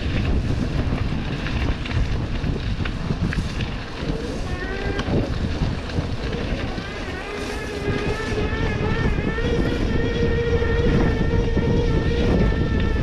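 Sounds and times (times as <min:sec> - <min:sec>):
electric bike motor whining: 0:00.0 - 0:13.0
wind rumble on microphone: 0:00.0 - 0:13.0.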